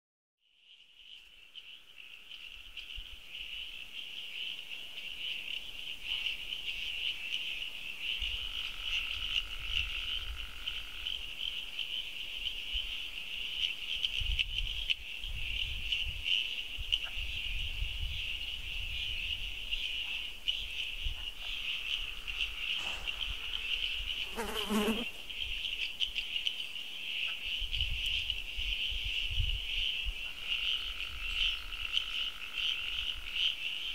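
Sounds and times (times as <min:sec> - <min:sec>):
insect chorus high-pitched drone: 0:00.4 - 0:33.9.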